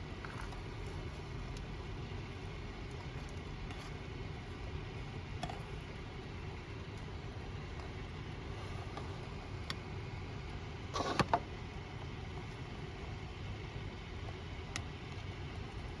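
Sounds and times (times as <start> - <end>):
low rumbling hum: 0.0 - 16.0.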